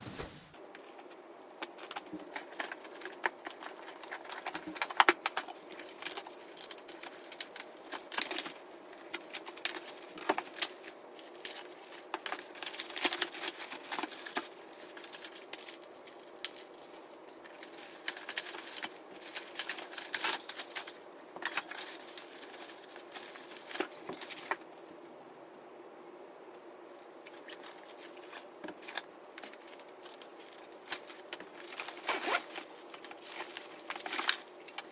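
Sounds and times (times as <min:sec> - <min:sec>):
packaging rustling and tearing: 0:00.0 - 0:00.6, 0:01.8 - 0:24.6, 0:27.3 - 0:34.9
faint steady hum: 0:00.0 - 0:34.9.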